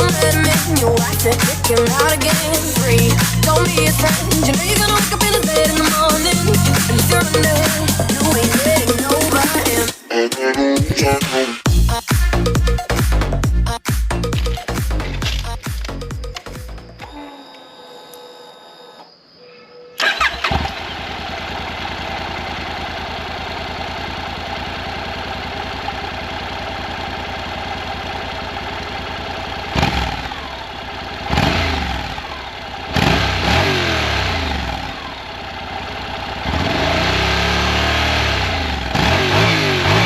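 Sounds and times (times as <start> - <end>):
motorcycle engine idling and revving: 0.0 - 10.0, 11.6 - 17.2, 20.0 - 40.0.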